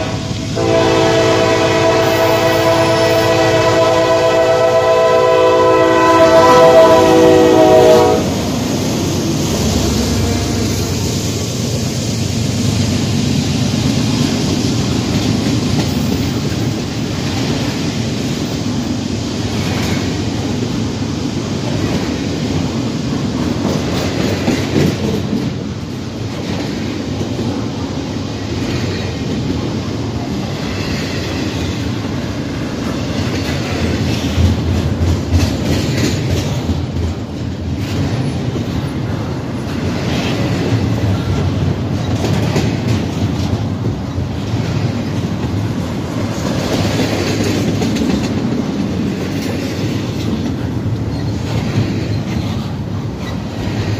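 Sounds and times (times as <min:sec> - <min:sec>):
train wheels clacking on rails: 0:00.0 - 0:53.9.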